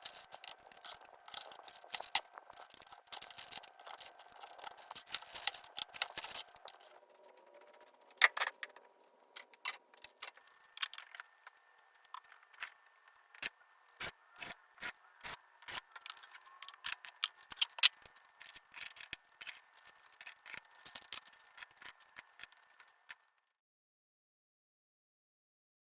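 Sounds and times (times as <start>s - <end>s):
clicks and rubbing of packaging: 0.0s - 23.3s.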